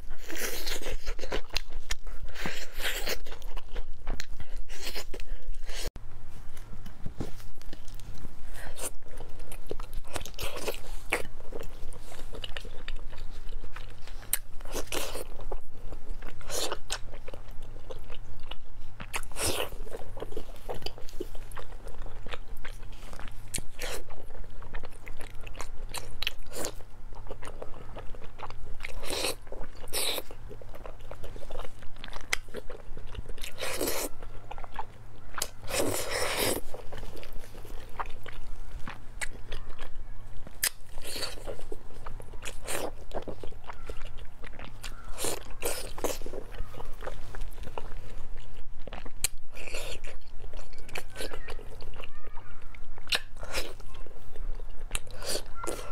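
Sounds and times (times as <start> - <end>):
person chewing with mouth clicks: 6.7 - 55.9.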